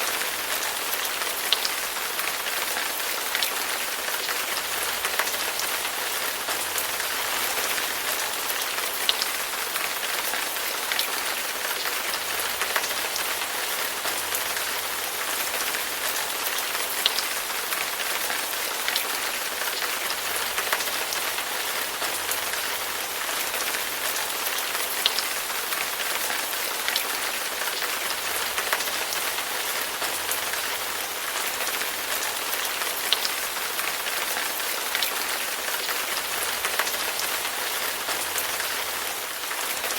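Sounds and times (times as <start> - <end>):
rain pattering on hard surface: 0.0 - 39.9.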